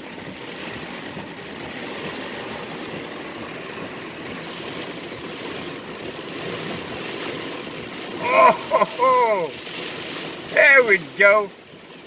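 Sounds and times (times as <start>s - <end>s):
heavy rain on car roof: 0.0s - 12.0s.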